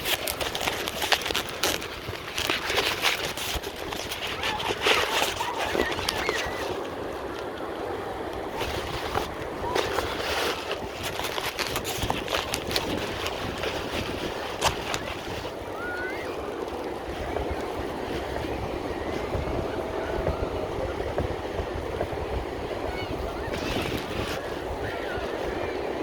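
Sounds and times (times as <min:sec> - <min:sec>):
ocean surf washing: 0:00.0 - 0:26.0.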